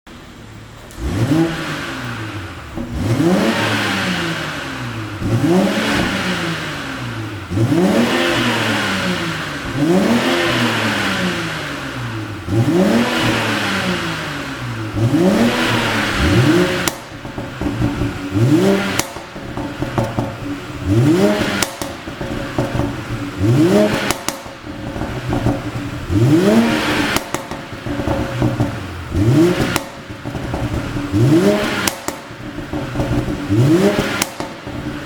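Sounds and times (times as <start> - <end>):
exhaust crackling and popping: 0.1 - 35.0
car engine revving: 0.2 - 35.0.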